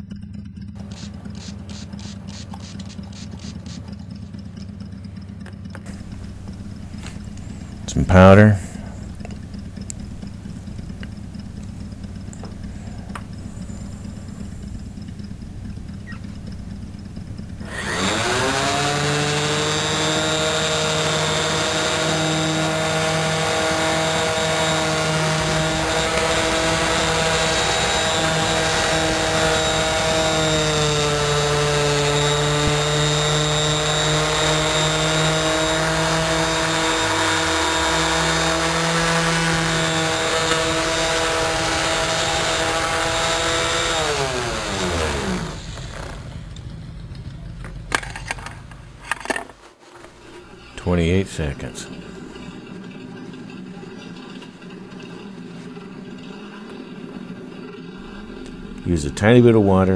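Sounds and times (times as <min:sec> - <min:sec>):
electric sander running: 0:00.8 - 0:46.8, 0:56.3 - 0:59.9.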